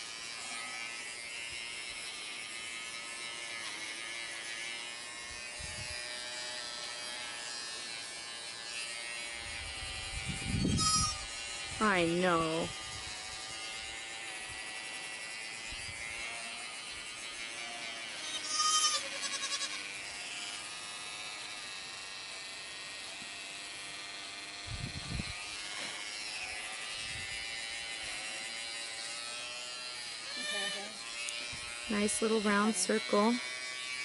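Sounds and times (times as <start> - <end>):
electric hair clippers running: 0.0 - 34.0.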